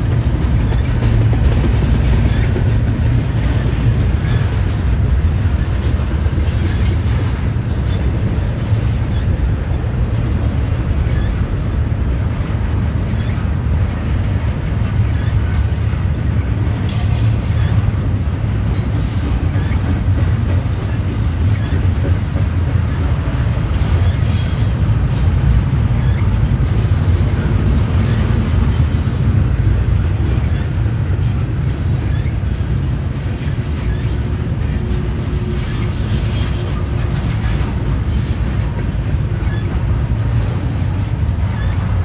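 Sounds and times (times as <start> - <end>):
high-pitched train squeals: 0.0 - 12.2, 12.8 - 42.0
freight train rumbling past: 0.0 - 42.0.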